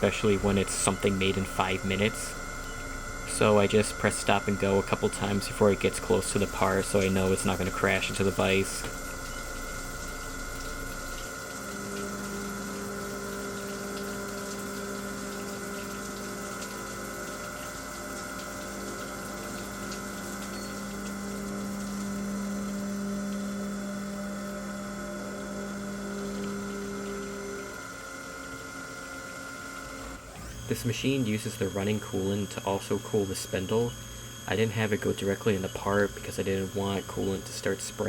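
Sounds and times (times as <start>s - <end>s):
coolant rushing: 0.0s - 38.0s
milling machine hum: 0.0s - 38.0s.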